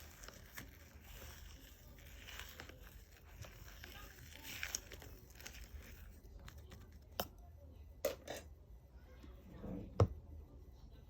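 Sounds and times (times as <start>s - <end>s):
soft slime squish: 0.0s - 11.0s.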